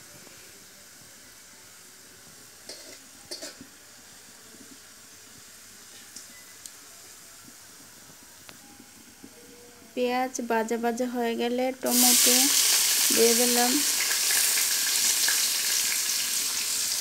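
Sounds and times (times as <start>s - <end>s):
onions sizzling in a pan: 0.0s - 8.2s, 10.0s - 17.0s.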